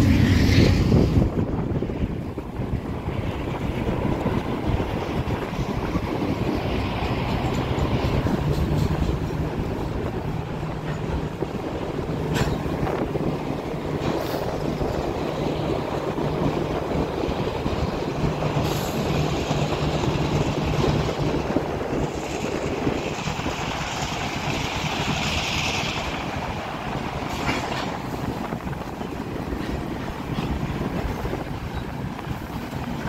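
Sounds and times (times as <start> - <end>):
freight train rolling on rails: 0.0 - 33.0.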